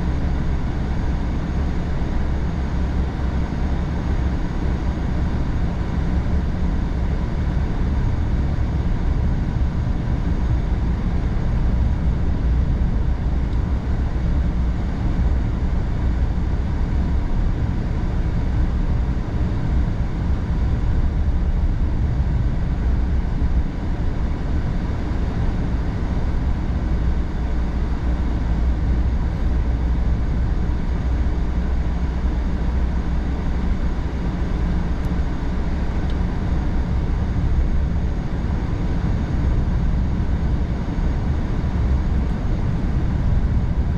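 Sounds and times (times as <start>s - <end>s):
car tyres and engine rumble: 0.0s - 43.9s.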